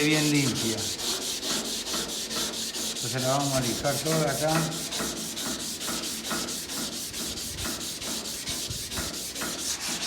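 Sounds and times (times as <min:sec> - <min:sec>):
sandpaper rasping on sheet metal: 0:00.0 - 0:10.0.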